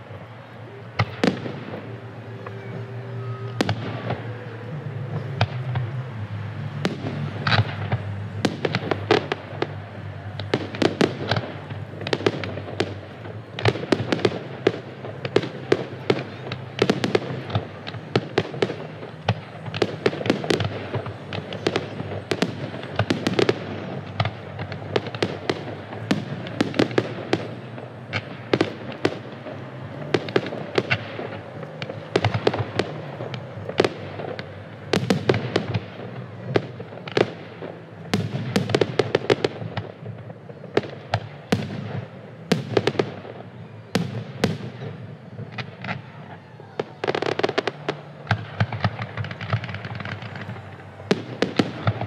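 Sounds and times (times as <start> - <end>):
constant rumble: 0.0 - 52.0
fireworks bangs: 0.0 - 52.0.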